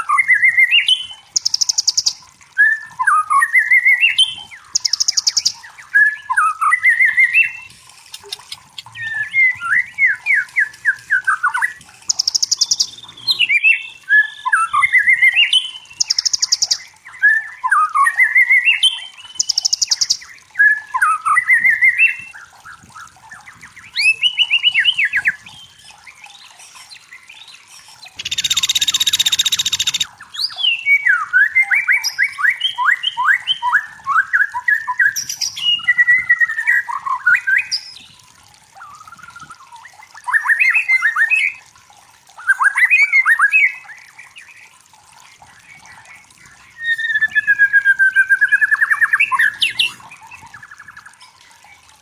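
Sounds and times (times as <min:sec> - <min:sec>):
bird singing whistles and trills: 0:00.0 - 0:41.6, 0:45.7 - 0:51.3.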